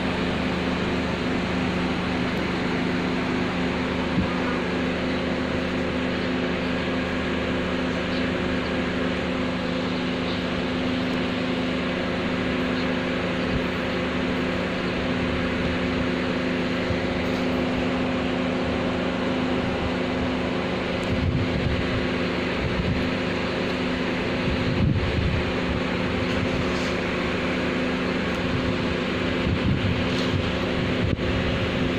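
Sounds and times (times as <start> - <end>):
machine hum: 0.0 - 31.9.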